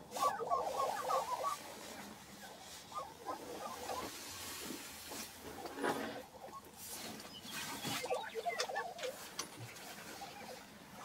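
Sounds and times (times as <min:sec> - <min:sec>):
prairie-chicken calling: 0:00.0 - 0:04.3, 0:06.1 - 0:11.0.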